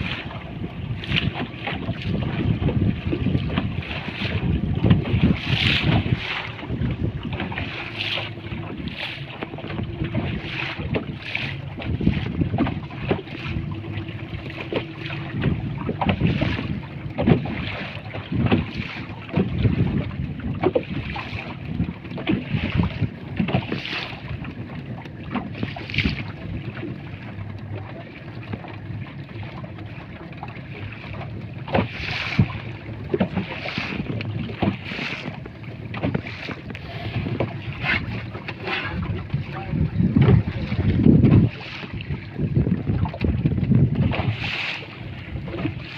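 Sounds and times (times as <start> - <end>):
water slapping against hull: 0.0 - 45.9
wind buffeting microphone: 0.0 - 45.9.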